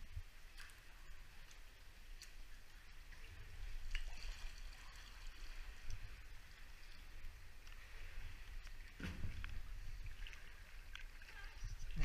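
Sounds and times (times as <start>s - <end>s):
faint splashes: 0.0s - 12.0s
water sloshing around kayak: 0.0s - 12.0s.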